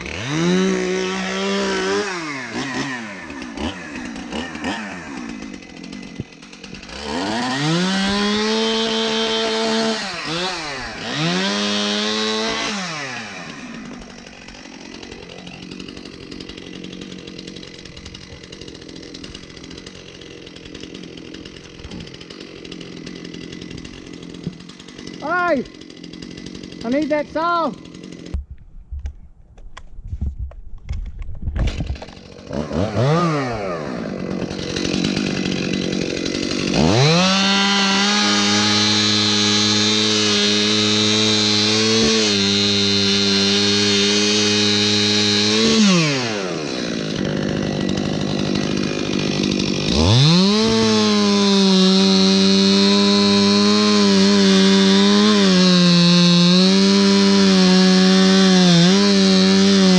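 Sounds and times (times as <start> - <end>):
chainsaw cutting wood: 0.0 - 28.6, 30.8 - 59.9.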